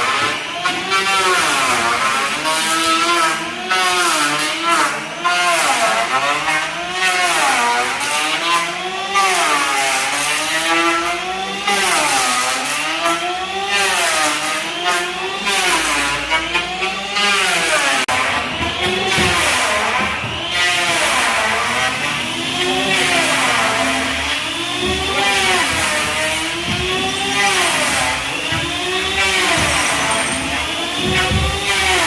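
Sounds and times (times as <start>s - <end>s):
small engine revving: 0.0s - 32.0s.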